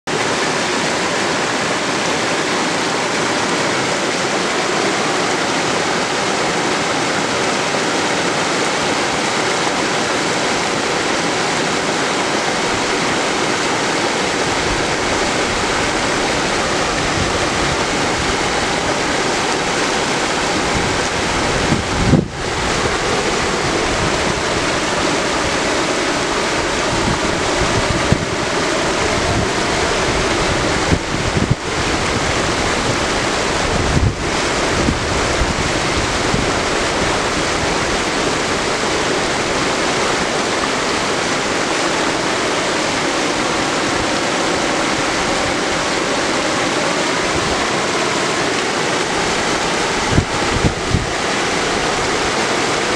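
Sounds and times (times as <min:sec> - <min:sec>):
river rushing over rocks: 0:00.1 - 0:52.9
wind buffeting microphone: 0:00.3 - 0:52.9.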